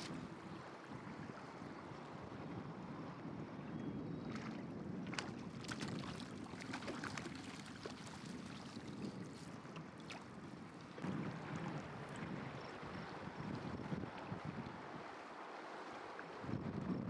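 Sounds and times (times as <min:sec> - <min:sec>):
flowing river water: 0:00.0 - 0:03.5, 0:04.2 - 0:17.0.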